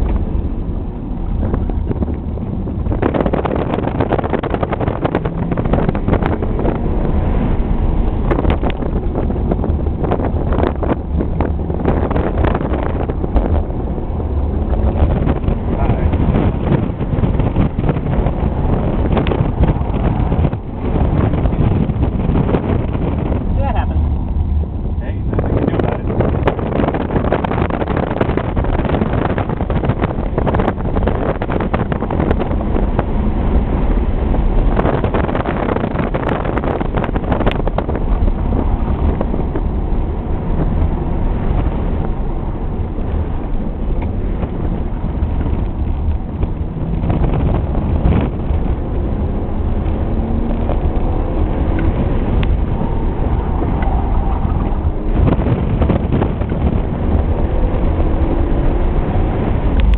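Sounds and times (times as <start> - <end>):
car engine at high revs: 0.0 - 59.9
tyre and wind noise: 0.0 - 59.9.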